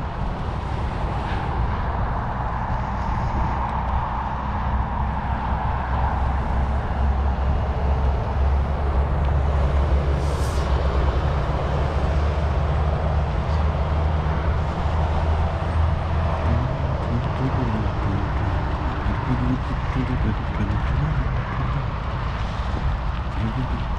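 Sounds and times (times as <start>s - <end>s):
wind on microphone: 0.0s - 23.9s.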